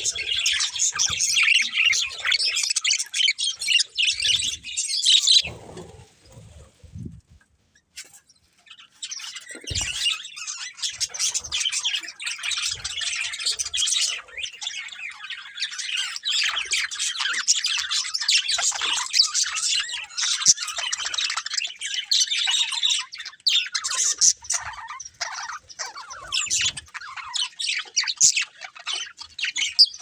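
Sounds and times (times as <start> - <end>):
budgerigars chattering and chirping: 0.0 - 6.4, 8.8 - 30.0.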